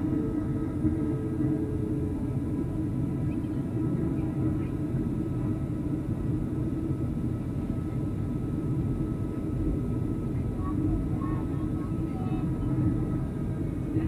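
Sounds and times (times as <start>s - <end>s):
faint steady tones: 0.0s - 14.0s
jet engines and airflow rumble: 0.0s - 14.0s.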